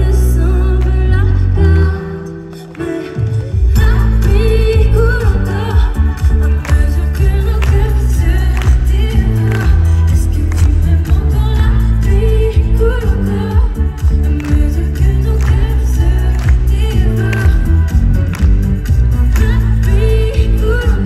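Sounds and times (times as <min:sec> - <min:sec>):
band with heavy bass: 0:00.0 - 0:21.0
woman singing live pop song: 0:00.0 - 0:21.0.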